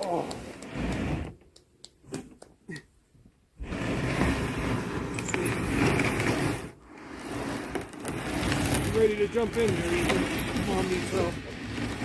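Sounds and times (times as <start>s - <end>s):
plywood panel scraping across plywood: 0.0s - 1.4s, 3.6s - 12.0s.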